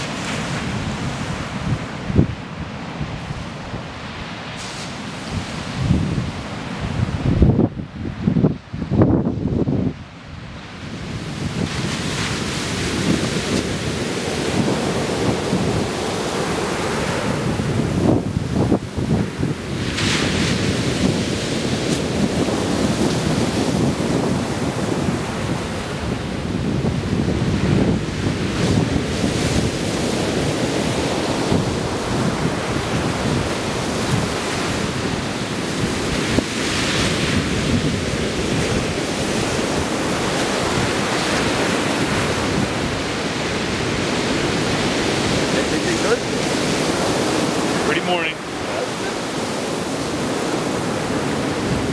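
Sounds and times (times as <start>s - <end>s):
surf breaking on beach: 0.0s - 51.9s
wind rumble on microphone: 0.0s - 51.9s.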